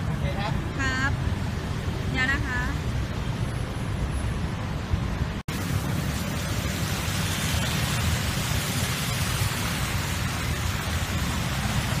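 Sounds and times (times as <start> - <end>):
vehicles splashing through water: 0.0 - 12.0.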